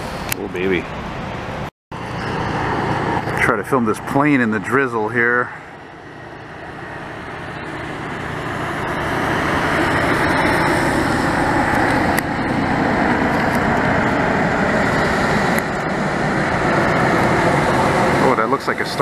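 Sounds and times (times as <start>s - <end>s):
airliner jet engines overhead: 0.0s - 19.0s.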